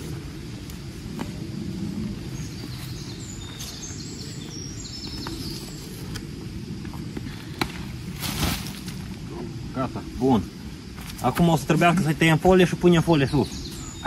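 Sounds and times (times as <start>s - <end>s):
birds chirping: 0.0s - 8.0s, 9.3s - 14.0s.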